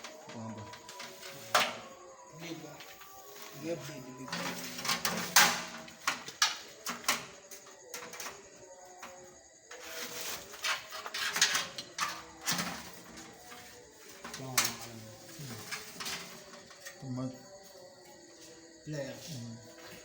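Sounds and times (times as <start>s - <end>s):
faint music: 0.0s - 20.0s.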